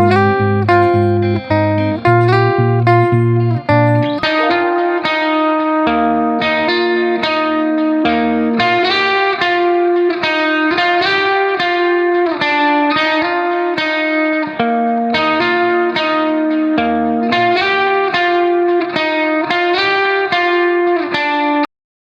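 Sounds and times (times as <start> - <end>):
plucked guitar melody: 0.0 - 21.7.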